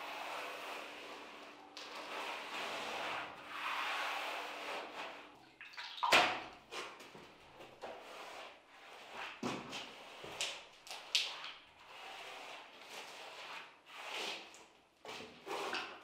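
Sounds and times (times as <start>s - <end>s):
brush swishing on plaster: 0.0s - 5.4s, 6.7s - 16.0s.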